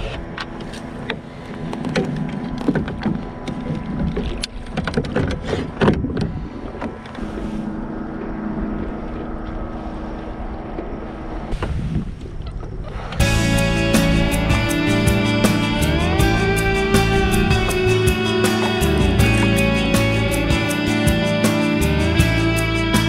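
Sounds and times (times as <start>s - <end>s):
water lapping against hull: 0.0s - 19.8s
low steady hum: 0.0s - 22.8s
wind on microphone: 1.6s - 23.0s.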